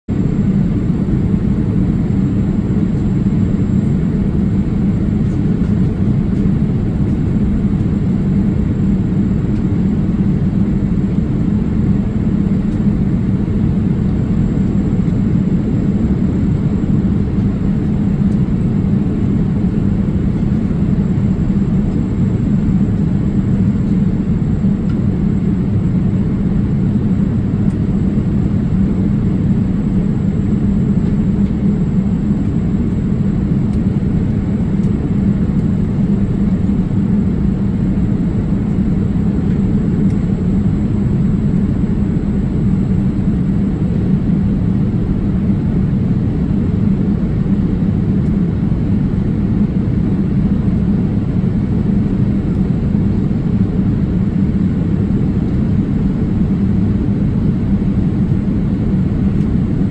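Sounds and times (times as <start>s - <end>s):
airliner cabin engine rumble: 0.1s - 59.9s
faint high hum: 0.1s - 59.9s.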